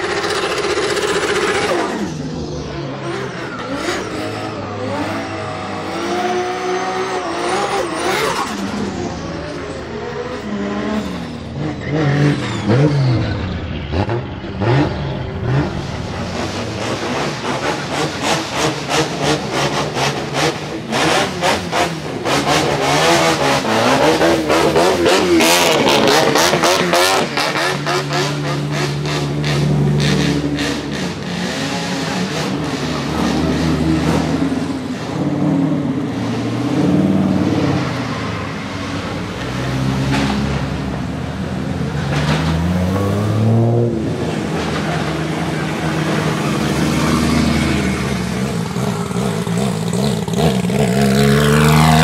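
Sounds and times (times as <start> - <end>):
engine revving: 0.0 - 52.0.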